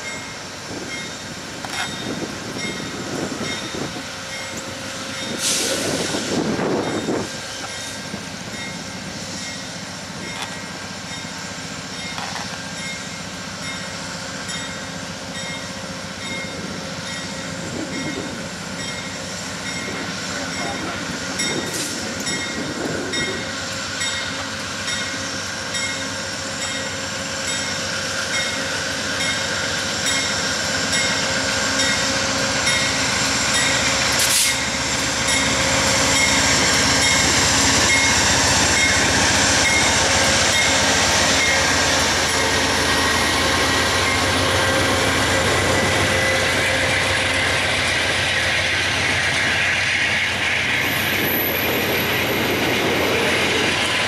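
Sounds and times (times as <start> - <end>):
diesel locomotive passing: 0.0 - 54.0
train cars rolling on rails: 0.0 - 54.0.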